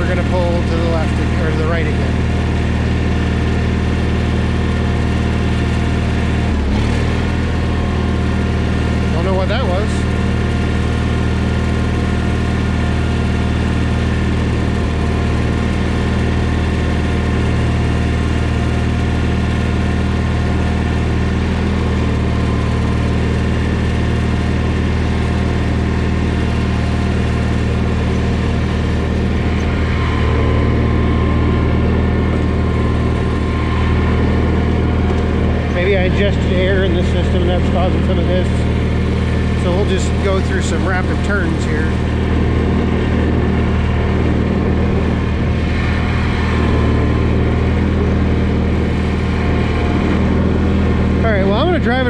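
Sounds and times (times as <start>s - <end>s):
garden tractor engine running: 0.0s - 52.0s.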